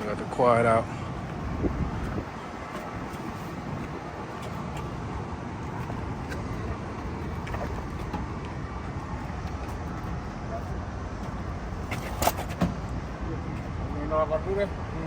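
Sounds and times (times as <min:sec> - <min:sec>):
low rumble of vehicle noise: 0:00.0 - 0:15.0.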